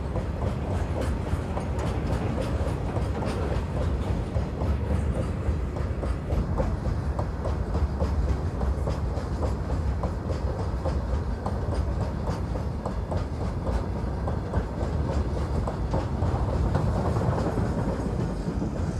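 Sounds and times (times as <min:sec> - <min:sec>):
freight train rumbling: 0:00.0 - 0:18.9.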